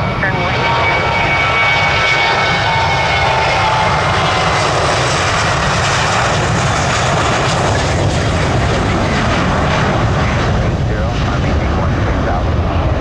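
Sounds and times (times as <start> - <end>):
jet engine high whine: 0.0 - 13.0
jet engines roaring: 0.0 - 13.0.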